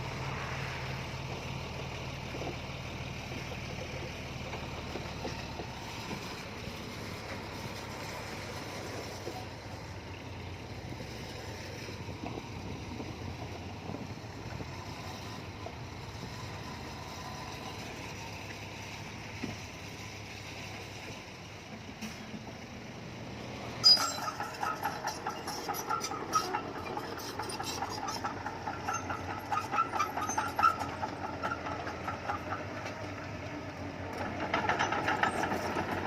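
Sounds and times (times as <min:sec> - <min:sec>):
diesel engine droning: 0:00.0 - 0:36.0.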